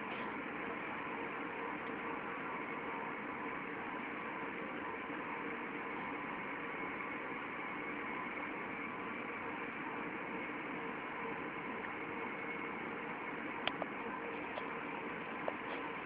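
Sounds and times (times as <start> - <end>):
industrial machinery hum: 0.0 - 16.0.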